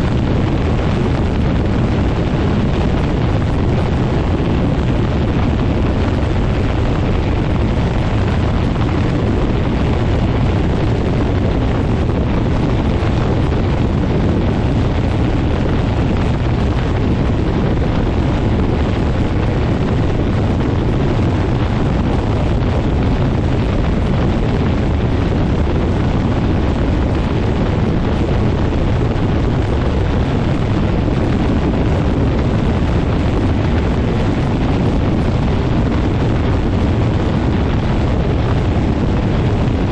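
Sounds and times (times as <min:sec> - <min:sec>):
light aircraft engine and propeller: 0:00.0 - 0:39.9
wind buffeting microphone: 0:00.0 - 0:39.9.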